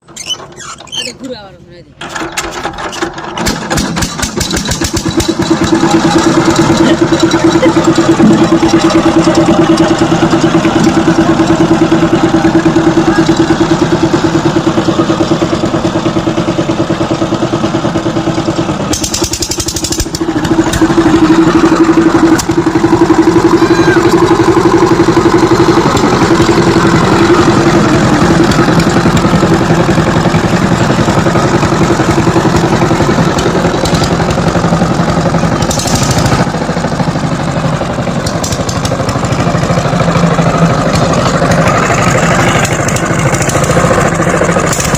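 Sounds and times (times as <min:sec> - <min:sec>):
power tiller engine running: 0:00.0 - 0:44.9.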